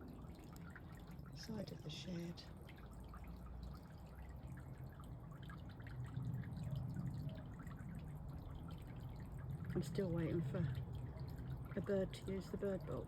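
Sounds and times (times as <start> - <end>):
water dripping into a pond: 0.0 - 13.0.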